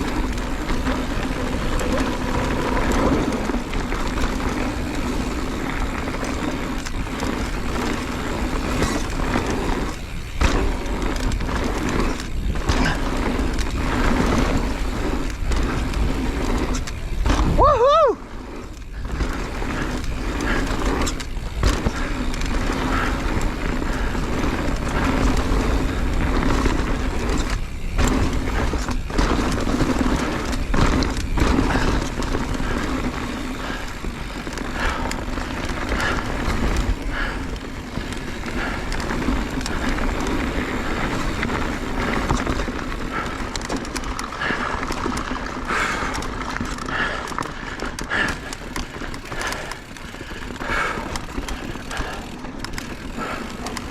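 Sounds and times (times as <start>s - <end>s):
bike rattling: 0.0s - 53.9s
tyres rumbling over rock: 0.0s - 53.9s.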